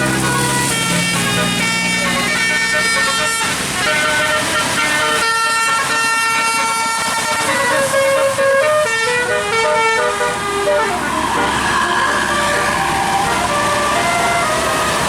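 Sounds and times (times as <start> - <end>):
bus horn playing a tune: 0.0 - 15.0.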